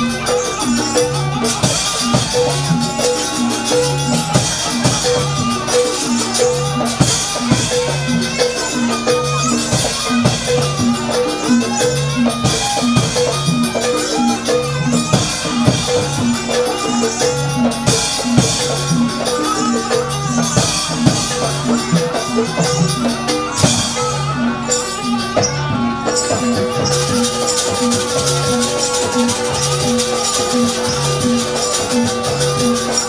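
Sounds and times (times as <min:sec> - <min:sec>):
drums: 0:00.0 - 0:33.0
gamelan music: 0:00.0 - 0:33.0.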